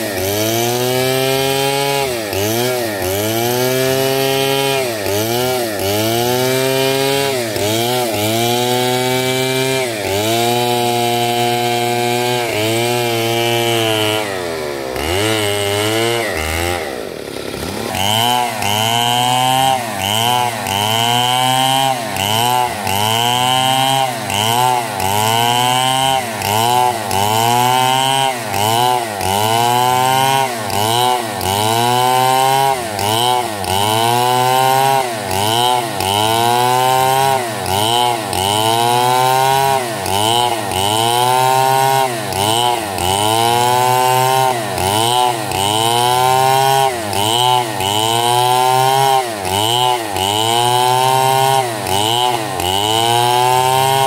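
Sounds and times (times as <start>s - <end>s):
chainsaw cutting log at high revs: 0.0s - 54.0s.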